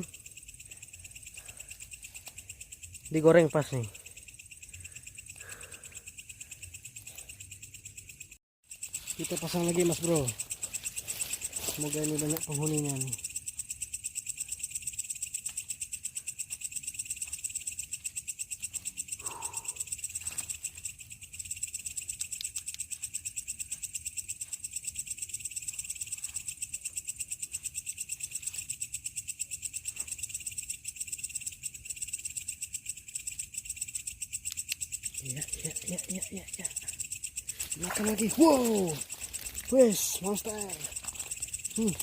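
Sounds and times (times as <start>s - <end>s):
falling insect call: 0.0s - 42.0s
insects chirping: 0.0s - 42.0s.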